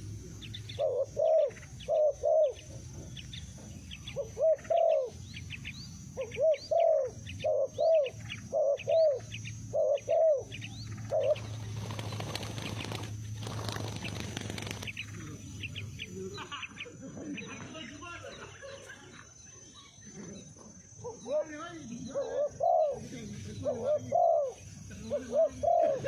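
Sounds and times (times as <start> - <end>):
dove cooing: 0.0 - 17.6, 19.7 - 26.0
small birds chirping: 0.0 - 26.0.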